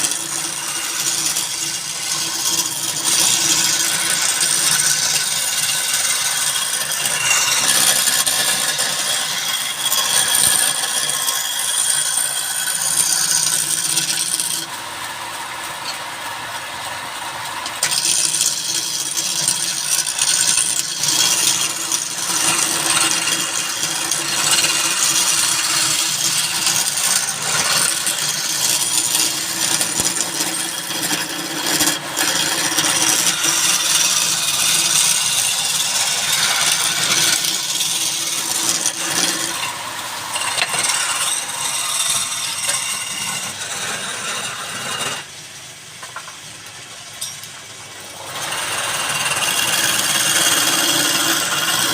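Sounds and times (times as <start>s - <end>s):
woodworking machine rasping: 0.0s - 51.9s.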